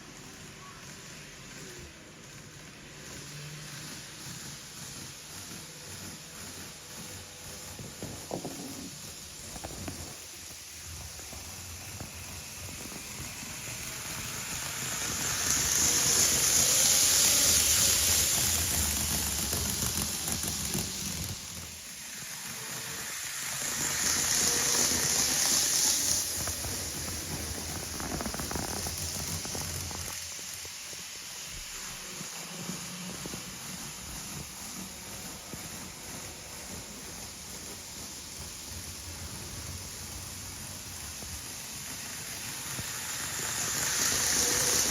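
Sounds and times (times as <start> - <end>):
train running hissing rush: 0.0 - 44.9.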